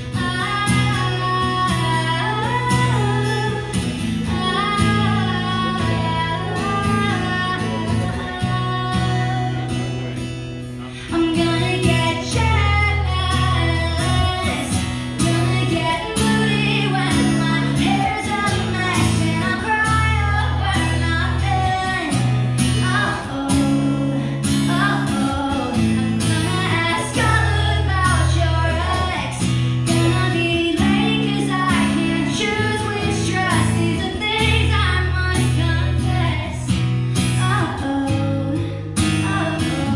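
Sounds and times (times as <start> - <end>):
acoustic guitar strumming: 0.0 - 39.9
woman singing live: 0.0 - 39.9.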